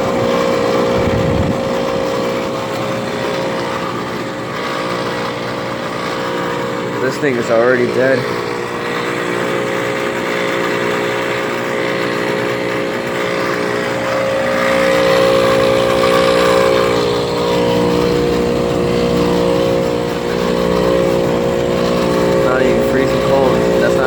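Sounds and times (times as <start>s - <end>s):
air conditioning unit droning hum: 0.0s - 24.0s.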